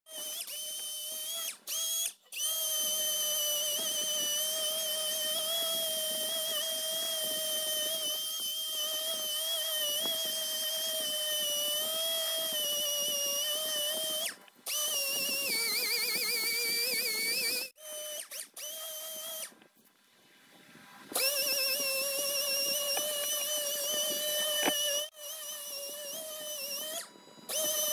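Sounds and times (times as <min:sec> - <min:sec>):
orbital sander whining: 0:00.1 - 0:19.6, 0:21.0 - 0:27.9.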